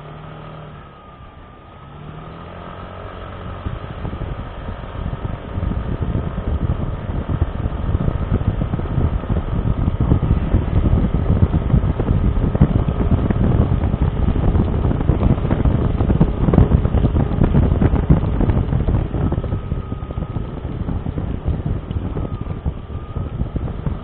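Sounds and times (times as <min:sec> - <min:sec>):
motorcycle rumbling: 0:00.0 - 0:24.0
wind buffeting microphone: 0:02.2 - 0:24.0.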